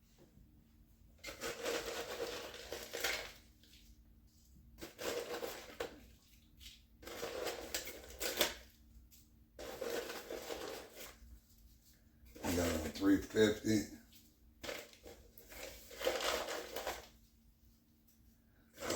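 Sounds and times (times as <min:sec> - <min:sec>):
fried onions crunching and rustling: 0:01.3 - 0:13.4, 0:14.1 - 0:17.3.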